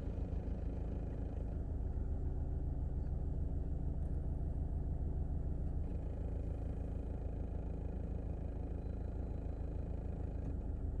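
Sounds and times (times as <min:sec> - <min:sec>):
car engine rumble inside cabin: 0:00.0 - 0:11.0.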